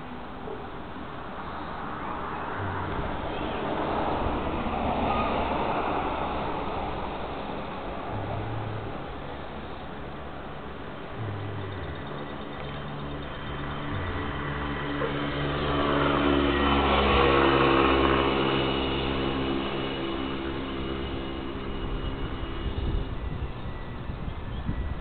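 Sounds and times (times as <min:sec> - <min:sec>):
engine passing by: 0:00.0 - 0:25.0.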